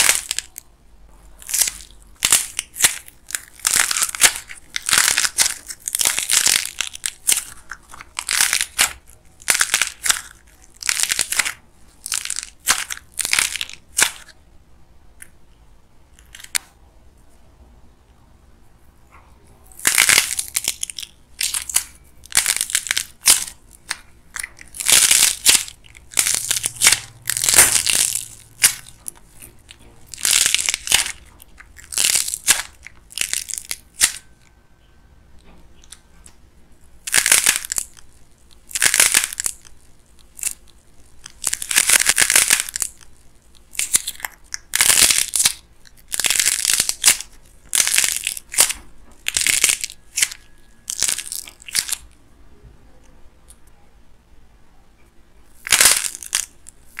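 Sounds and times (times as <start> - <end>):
dried clay crackling and crunching: 0.0 - 14.4, 16.1 - 16.8, 19.2 - 52.2, 55.5 - 57.0.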